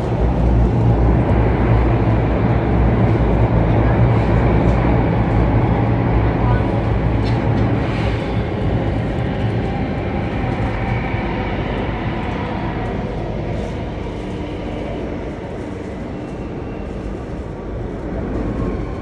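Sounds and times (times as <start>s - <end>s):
train rumbling through a tunnel: 0.0s - 19.0s.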